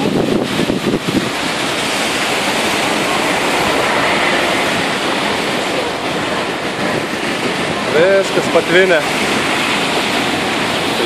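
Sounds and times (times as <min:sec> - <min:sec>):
vehicle wheels churning floodwater: 0:00.0 - 0:11.0.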